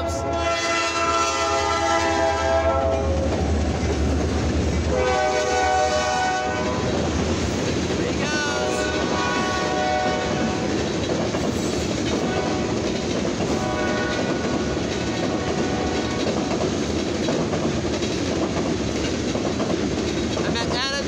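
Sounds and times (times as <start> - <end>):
freight train wheels on rails: 0.0 - 21.0.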